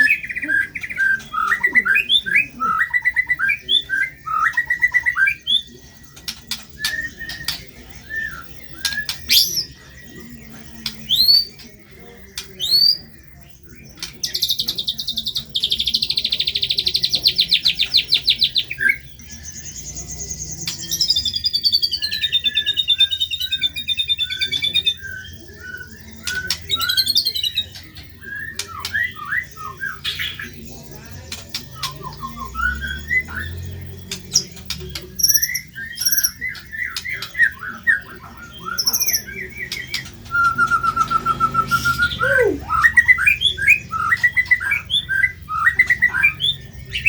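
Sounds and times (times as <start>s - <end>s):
bird chattering notes: 0.0s - 47.0s
bird whistled song: 0.0s - 47.0s.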